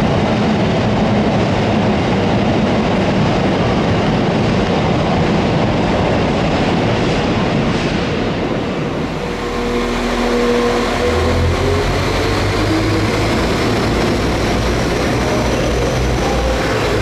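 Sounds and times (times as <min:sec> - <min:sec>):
train diesel engine drone: 0:00.0 - 0:17.0.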